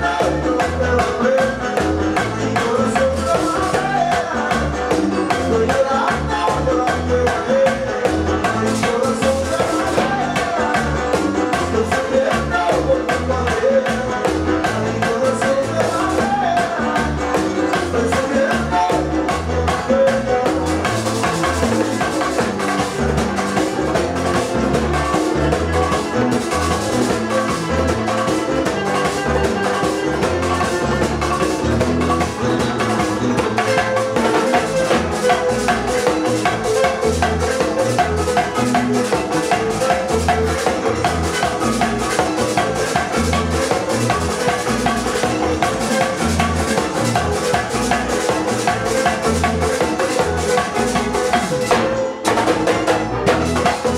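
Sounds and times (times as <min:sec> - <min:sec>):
latin dance music with drums: 0:00.0 - 0:53.9.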